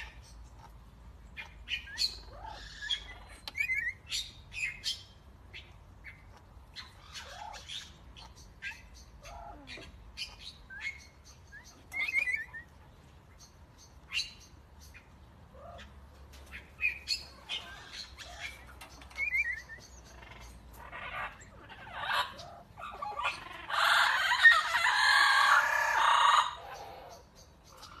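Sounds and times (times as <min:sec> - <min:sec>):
parrots chirping and squeaking: 0:00.0 - 0:28.0.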